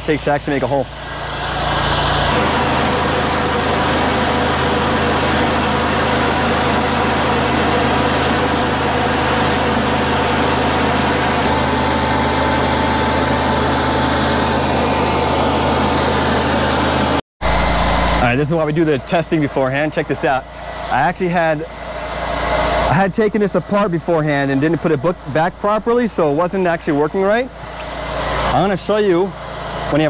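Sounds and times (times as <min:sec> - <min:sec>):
pump droning: 0:00.0 - 0:30.0.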